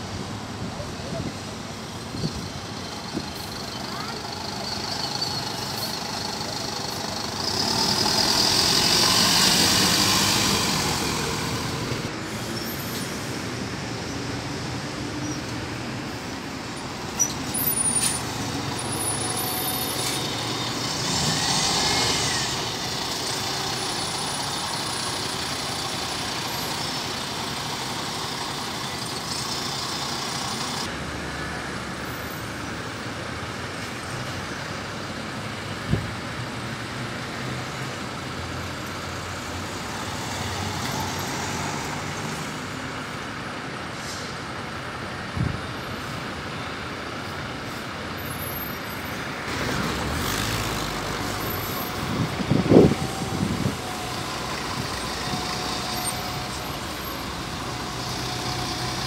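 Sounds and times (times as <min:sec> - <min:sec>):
buses driving past: 0:00.0 - 0:59.0.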